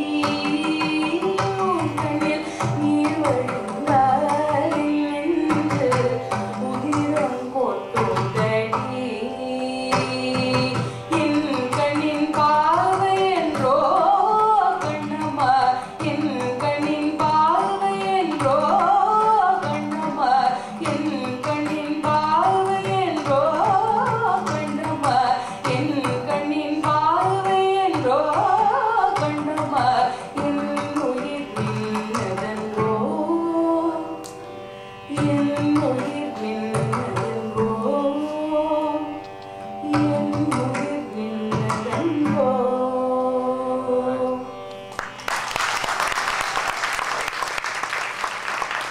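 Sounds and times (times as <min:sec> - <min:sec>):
woman singing: 0:00.0 - 0:34.4, 0:35.0 - 0:44.6.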